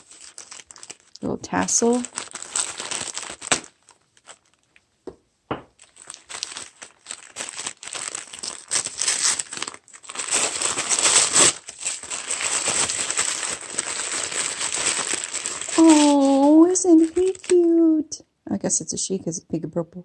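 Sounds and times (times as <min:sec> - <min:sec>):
paper crinkling and tearing: 0:00.0 - 0:04.7, 0:05.8 - 0:17.7.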